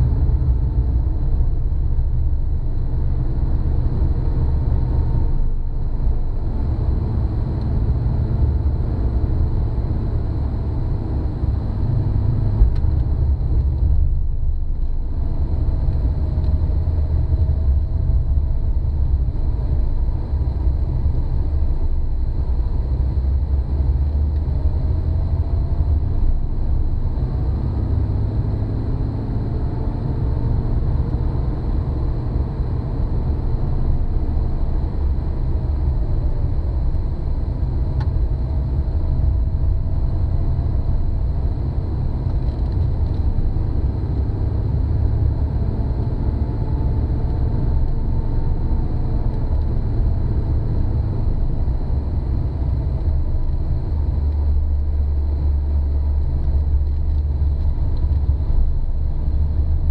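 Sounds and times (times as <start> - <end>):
car interior drone while driving: 0.0 - 59.9.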